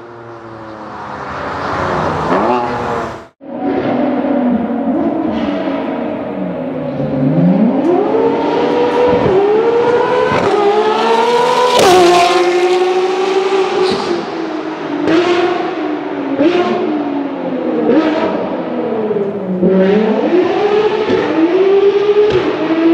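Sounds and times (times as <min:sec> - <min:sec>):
race car engine accelerating: 0:00.3 - 0:22.9.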